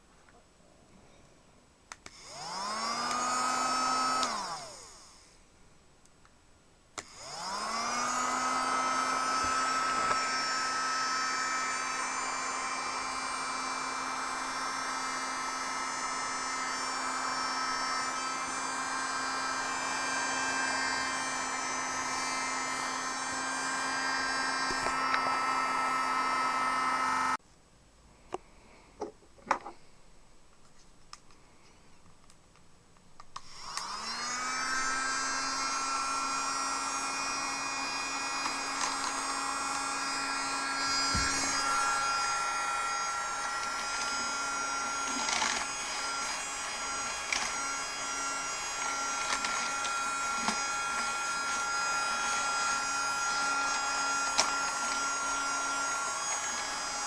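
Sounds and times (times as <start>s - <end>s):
small vacuum motor whining: 2.0s - 5.4s, 7.0s - 27.4s, 33.4s - 57.0s.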